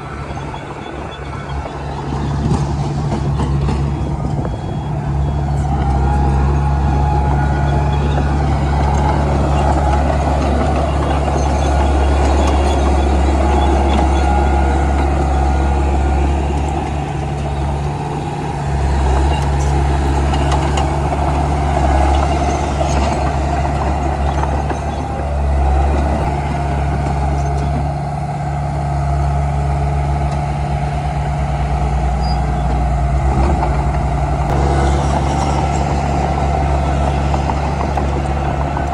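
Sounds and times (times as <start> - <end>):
bulldozer diesel engine droning: 0.0 - 38.9.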